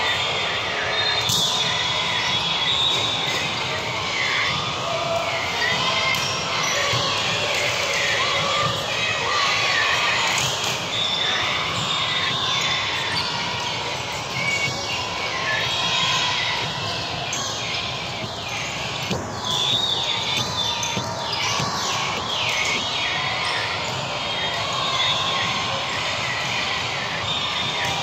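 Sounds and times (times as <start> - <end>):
distant voices in sports hall: 0.0 - 28.0.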